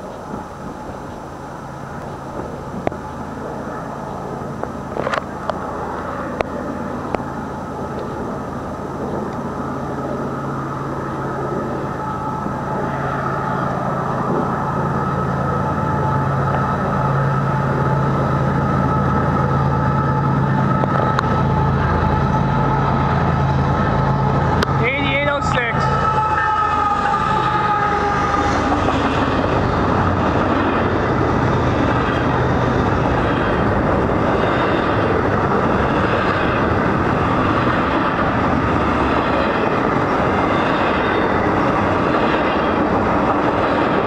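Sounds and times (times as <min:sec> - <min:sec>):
diesel locomotive engine drone: 0:00.0 - 0:44.0.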